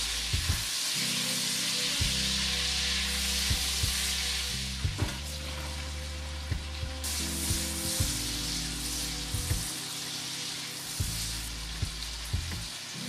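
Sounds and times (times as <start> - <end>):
background music: 0.0 - 13.0
food sizzling in a pan: 0.0 - 13.0.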